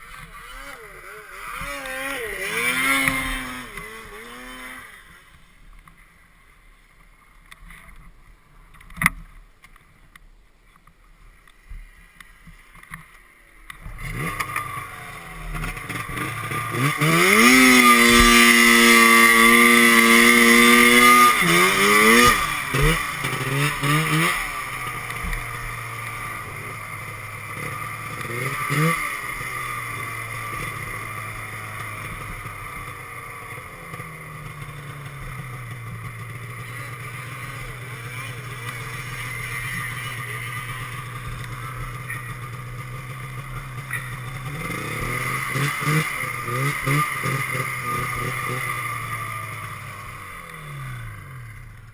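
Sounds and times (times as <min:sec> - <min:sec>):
snowmobile engine revving: 0:00.0 - 0:05.6, 0:13.7 - 0:51.9.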